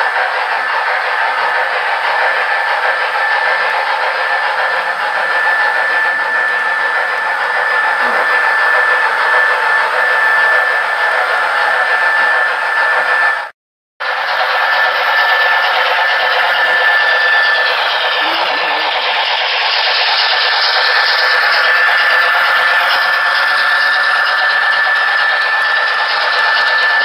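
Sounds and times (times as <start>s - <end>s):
model train whirring: 0.0s - 27.0s.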